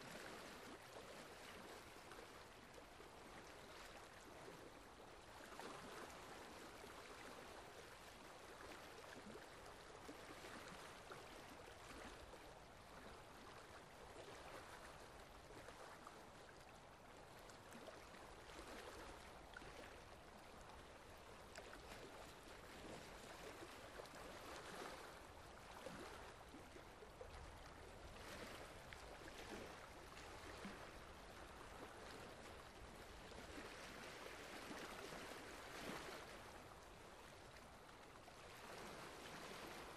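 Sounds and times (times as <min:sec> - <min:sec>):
faint trickling water: 0:00.0 - 0:39.9.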